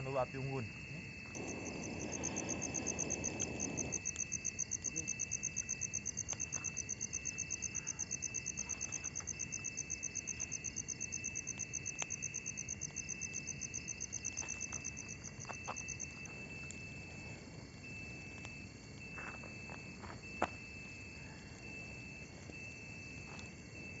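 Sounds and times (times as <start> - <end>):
cricket chirping: 0.0 - 24.0
insects droning: 0.0 - 24.0.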